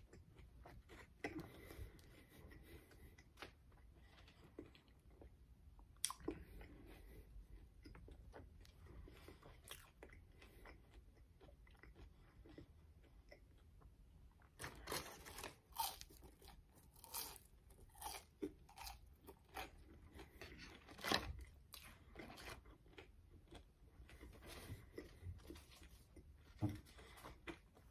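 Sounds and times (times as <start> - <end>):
chewing french fries: 0.0 - 27.9.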